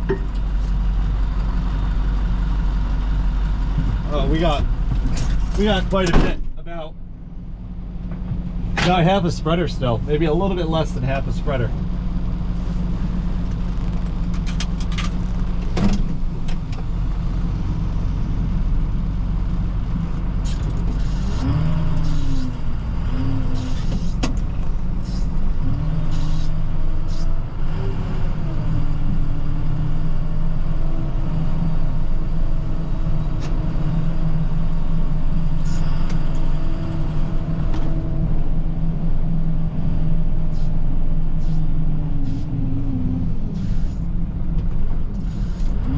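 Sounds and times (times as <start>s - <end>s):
truck engine revving: 8.6s - 45.9s.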